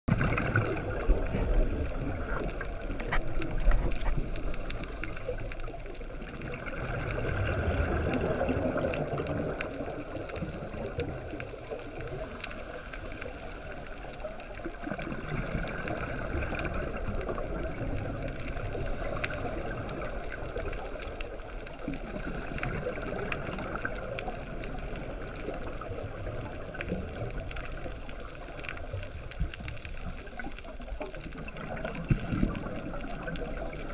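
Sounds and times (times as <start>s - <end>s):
gurgling exhaled bubbles: 0.1s - 33.9s.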